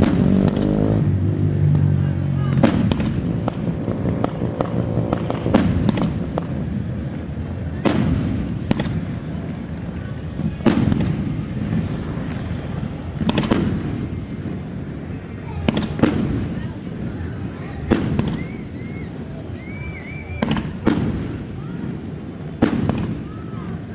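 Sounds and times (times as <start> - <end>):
fireworks booming: 0.0 - 23.9
fireworks popping and crackling: 0.0 - 23.9.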